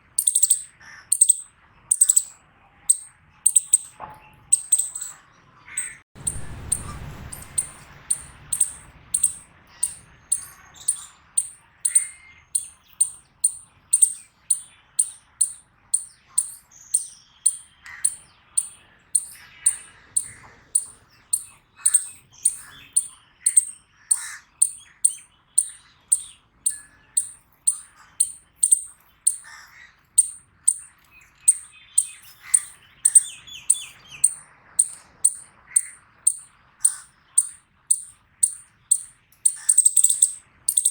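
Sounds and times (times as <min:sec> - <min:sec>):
chipmunk chip calls: 0:00.0 - 0:40.9
faint bird calls: 0:00.0 - 0:40.9.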